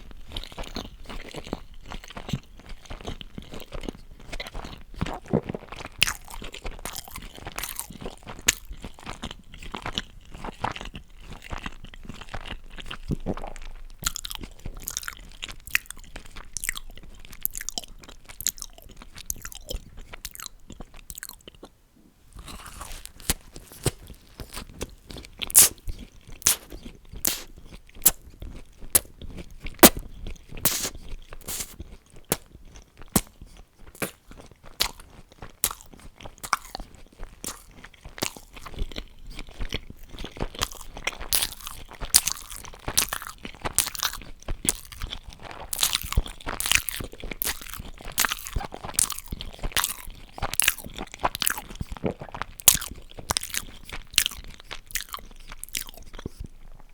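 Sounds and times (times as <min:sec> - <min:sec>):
chewing: 0:00.1 - 0:21.7, 0:22.3 - 0:56.9
sharp crunches of eating: 0:00.2 - 0:21.7, 0:22.3 - 0:56.9.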